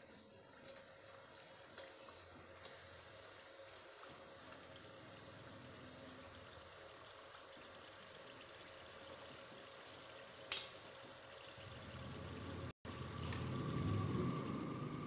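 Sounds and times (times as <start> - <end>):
dough sizzling in hot oil: 0.0 - 15.0.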